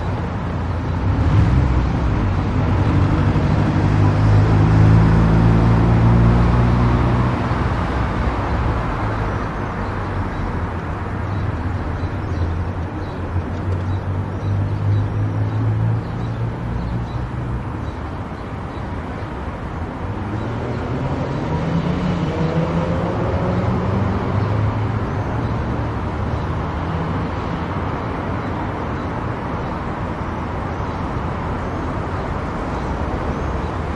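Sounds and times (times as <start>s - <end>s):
low engine hum: 0.0s - 33.9s
road and tyre noise: 0.0s - 33.9s.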